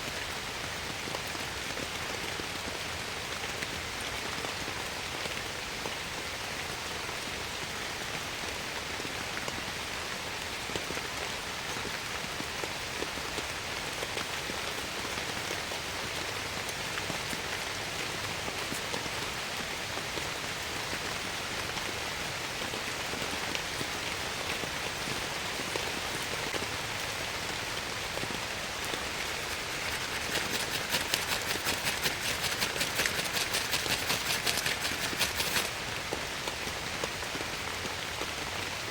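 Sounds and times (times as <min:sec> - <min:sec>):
patter of close raindrops: 0:00.0 - 0:38.9.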